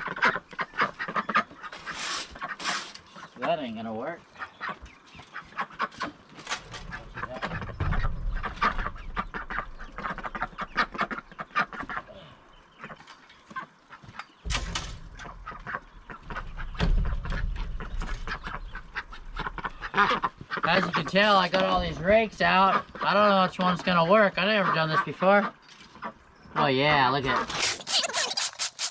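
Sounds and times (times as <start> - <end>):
ducks quacking: 0.0 - 28.9.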